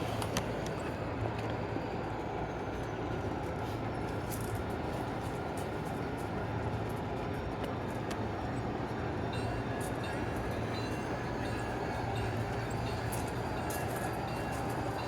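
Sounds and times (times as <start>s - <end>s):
light clicks of train on track: 0.0s - 15.0s
model train hum: 0.0s - 15.0s.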